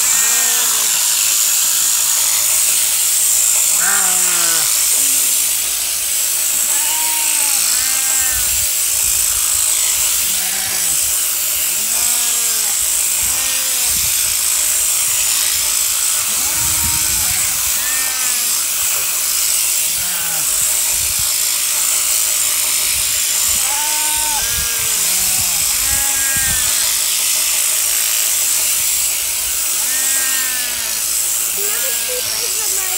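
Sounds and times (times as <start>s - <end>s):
sheep shearing handpiece running: 0.0s - 32.9s.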